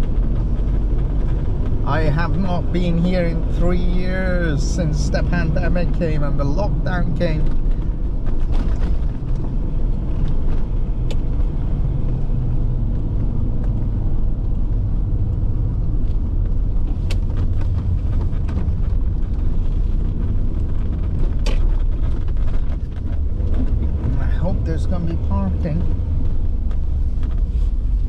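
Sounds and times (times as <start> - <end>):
engine and road rumble in car: 0.0 - 28.0.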